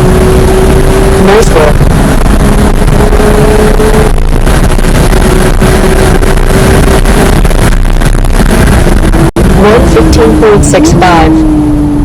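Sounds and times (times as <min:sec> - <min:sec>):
car engine running hard: 0:00.0 - 0:12.0
wind and road noise: 0:00.0 - 0:12.0.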